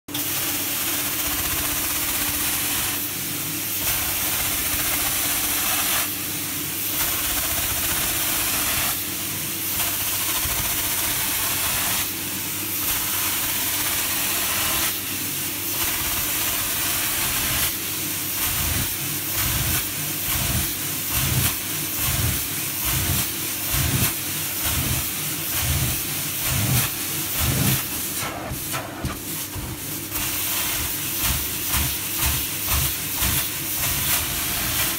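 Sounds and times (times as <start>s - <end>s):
vacuum hissing through floor wand: 0.2s - 34.9s.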